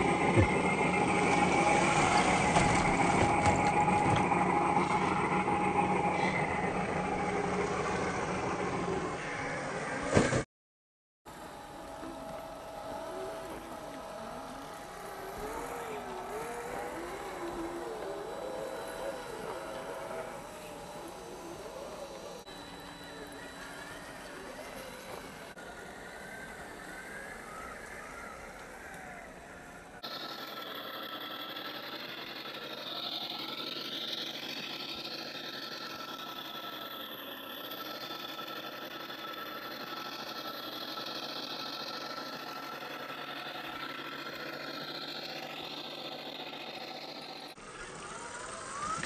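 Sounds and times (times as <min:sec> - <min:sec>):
electric motor and gearbox whining: 0:00.0 - 0:10.5, 0:11.3 - 0:49.0.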